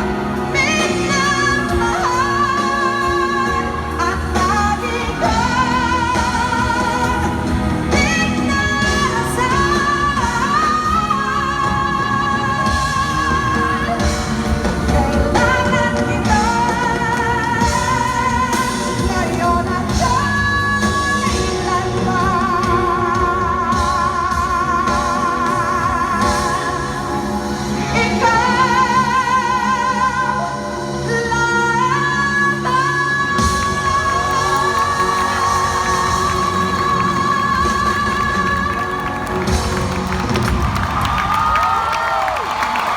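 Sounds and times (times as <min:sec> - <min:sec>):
band accompaniment: 0:00.0 - 0:42.9
person singing a ballad: 0:00.0 - 0:42.9.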